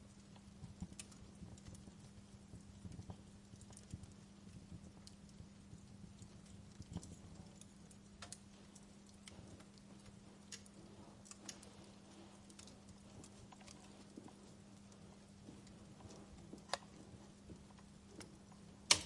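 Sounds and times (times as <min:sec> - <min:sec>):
steady low hum: 0:00.0 - 0:19.0
wood fire crackling: 0:00.0 - 0:19.0.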